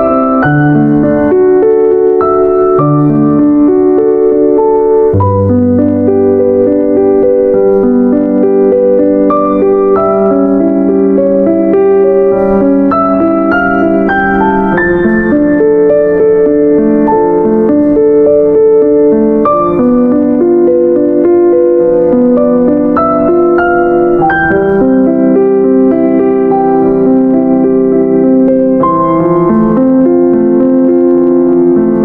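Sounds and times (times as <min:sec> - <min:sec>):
soft piano music: 0:00.0 - 0:32.0.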